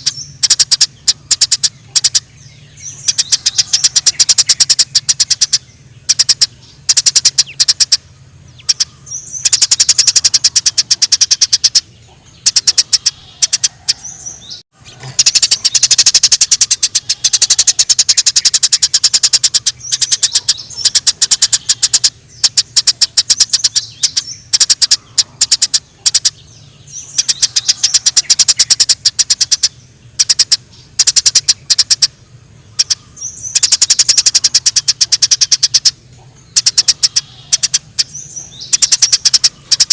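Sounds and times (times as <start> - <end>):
sparrows chirping: 0.0 - 39.9
steady low hum: 0.0 - 39.9.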